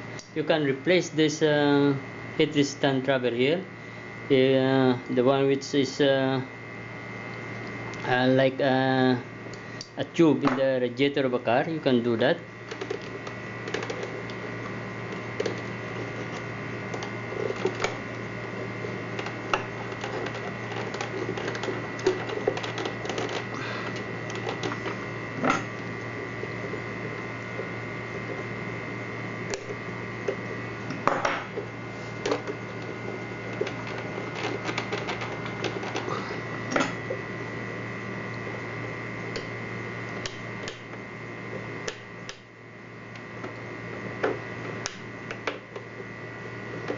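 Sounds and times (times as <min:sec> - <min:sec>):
steady hum: 0:00.0 - 0:46.9.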